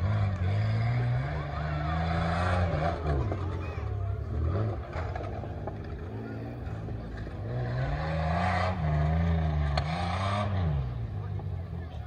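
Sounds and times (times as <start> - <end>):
engine revving hard: 0.0 - 5.4, 6.4 - 11.1.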